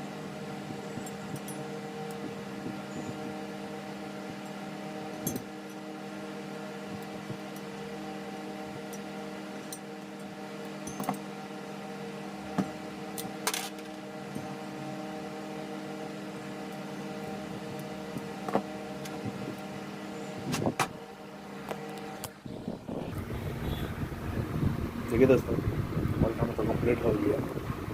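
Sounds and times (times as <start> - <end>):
table fan motor hum: 0.0 - 27.9.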